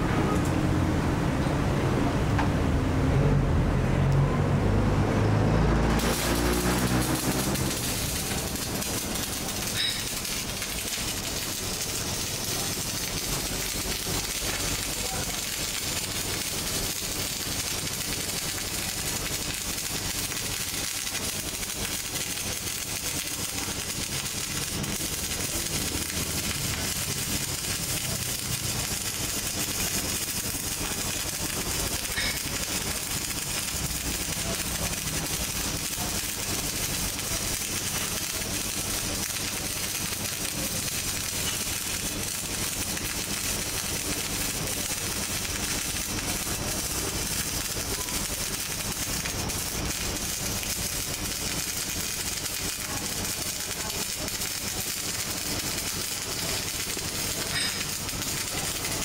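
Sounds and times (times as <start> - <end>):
welding arc crackling and hissing: 4.1 - 59.0.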